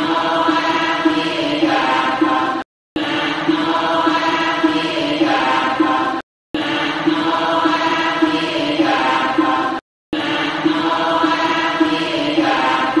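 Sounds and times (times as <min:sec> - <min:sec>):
voices chanting: 0:00.0 - 0:13.0.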